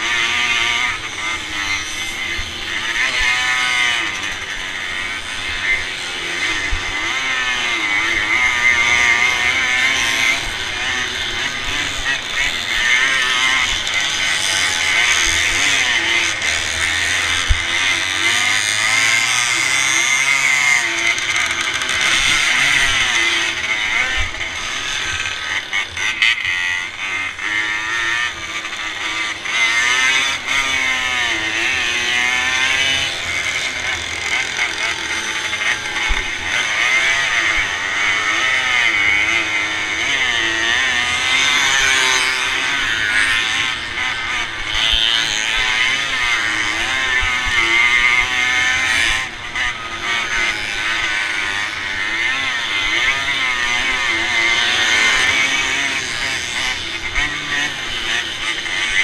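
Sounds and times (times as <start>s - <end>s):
racing motorcycle engine revving: 0.0s - 59.0s.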